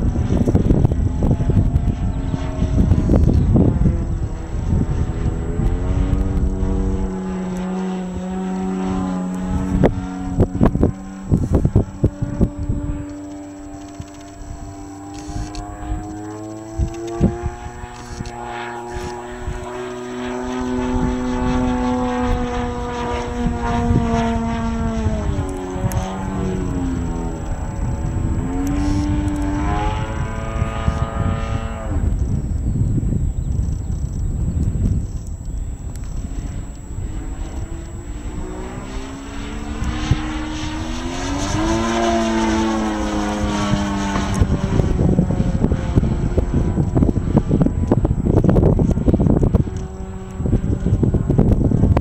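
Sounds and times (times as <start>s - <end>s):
model plane propeller droning: 0.0s - 52.0s
wind buffeting microphone: 0.0s - 52.0s.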